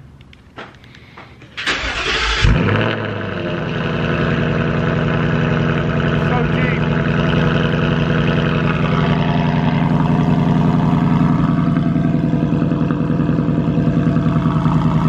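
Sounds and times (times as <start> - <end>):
car engine idling: 0.9 - 15.0.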